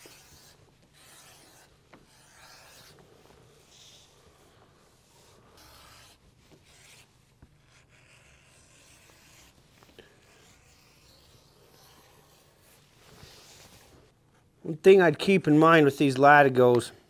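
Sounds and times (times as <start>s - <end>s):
rubbing on leather strap: 0.0s - 14.0s.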